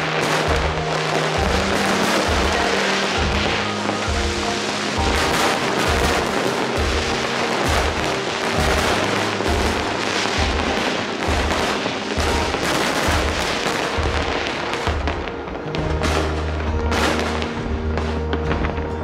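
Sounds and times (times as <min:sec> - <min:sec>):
fireworks bursting and crackling: 0:00.0 - 0:19.0
music with bass beat: 0:00.0 - 0:19.0.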